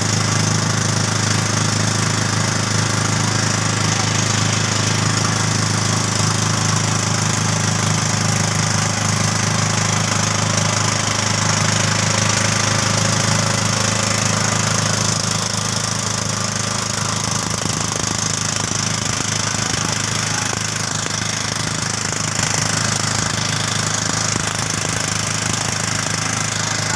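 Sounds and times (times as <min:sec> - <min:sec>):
boat motor chugging: 0:00.0 - 0:26.9.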